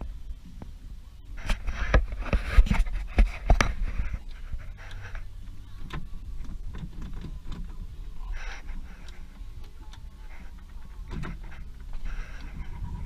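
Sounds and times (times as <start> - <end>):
low rumble: 0.0 - 13.0
rustling: 0.5 - 13.0.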